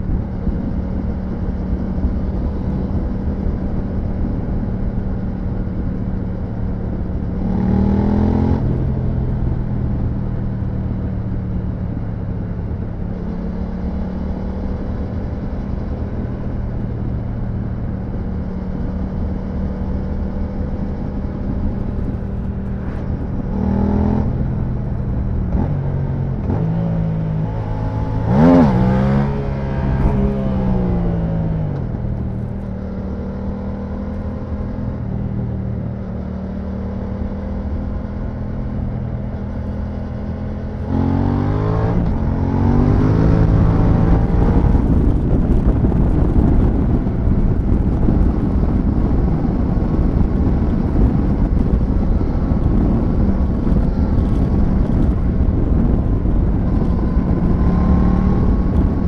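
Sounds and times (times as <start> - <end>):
motorcycle engine revving: 0.0 - 11.3, 18.1 - 59.0.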